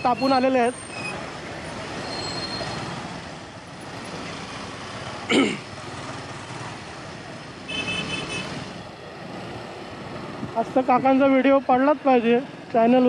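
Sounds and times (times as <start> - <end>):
motorcycle engine in traffic: 0.0 - 13.0.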